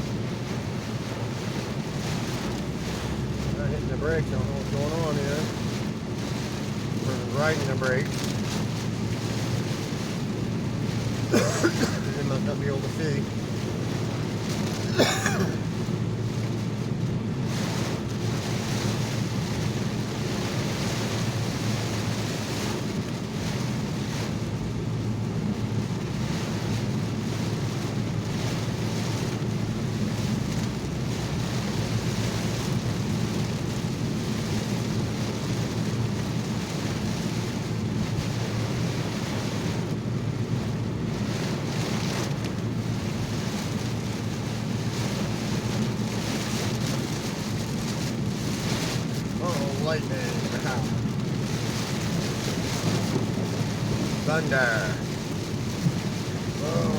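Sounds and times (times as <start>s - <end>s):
heavy rain on car: 0.0s - 56.9s
tyres on wet road: 0.0s - 56.9s.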